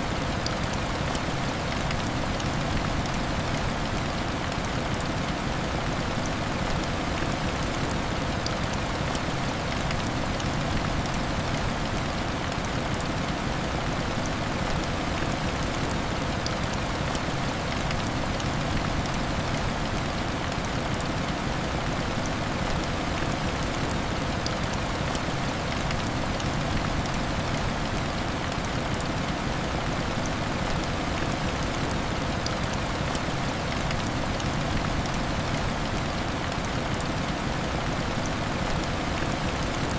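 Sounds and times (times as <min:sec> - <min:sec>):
heavy rain on window glass: 0:00.1 - 0:39.9.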